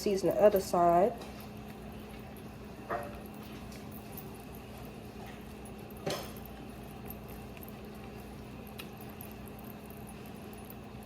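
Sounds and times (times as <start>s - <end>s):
rice boiling in a pot: 0.0s - 11.0s.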